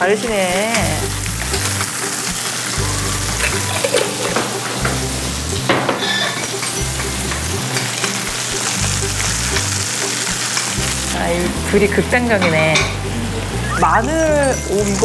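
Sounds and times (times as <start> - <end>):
food sizzling in a frying pan: 0.0 - 15.0
background music bass notes: 0.8 - 5.9, 6.5 - 15.0.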